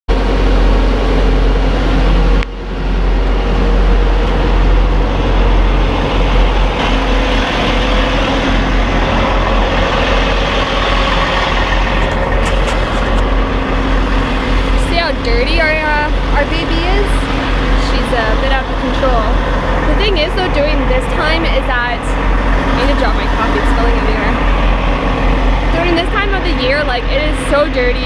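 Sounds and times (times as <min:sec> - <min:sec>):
diesel truck engine droning: 0:00.1 - 0:28.0.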